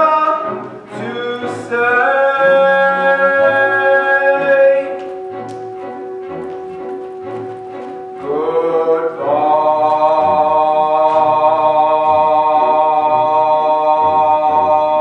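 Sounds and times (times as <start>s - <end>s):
voices singing a long chord: 0.0s - 15.0s.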